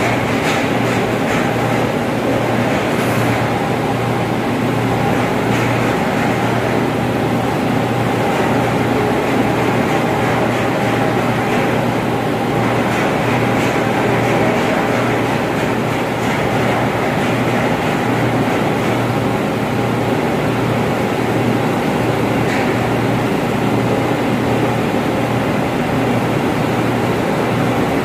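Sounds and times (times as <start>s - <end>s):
ventilation machinery drone: 0.0s - 28.0s.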